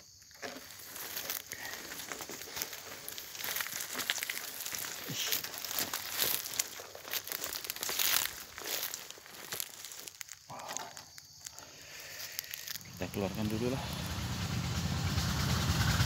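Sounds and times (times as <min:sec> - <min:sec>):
leaves rustling underfoot: 0:00.0 - 0:14.8.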